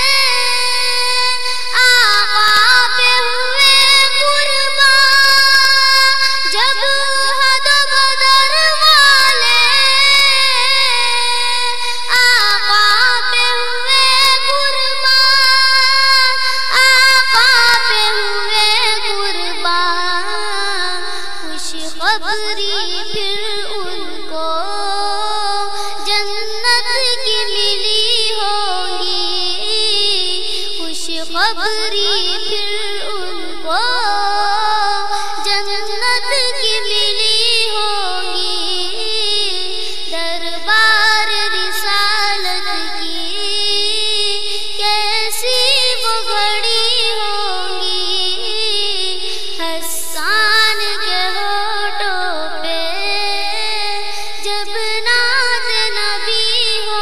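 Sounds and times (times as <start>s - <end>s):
child singing: 0.0s - 57.0s.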